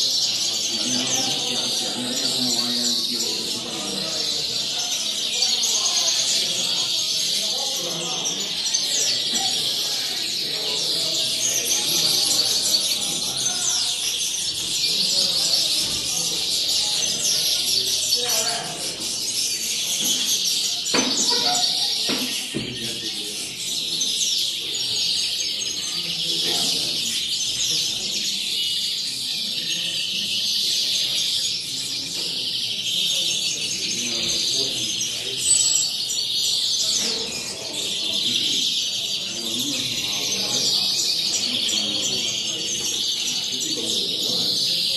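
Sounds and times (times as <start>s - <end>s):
finches twittering: 0.1s - 44.9s.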